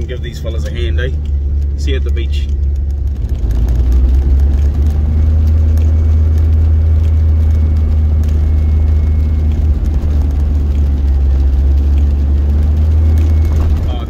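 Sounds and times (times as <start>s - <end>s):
rain ticking on windscreen: 0.0s - 14.0s
truck engine rumble: 0.0s - 14.0s
tyres on wet road: 0.0s - 14.0s.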